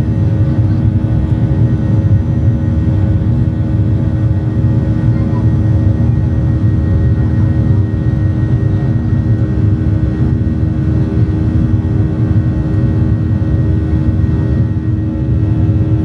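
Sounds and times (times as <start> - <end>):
constant hum: 0.0 - 16.0
jet engine and airflow rumble: 0.0 - 16.0.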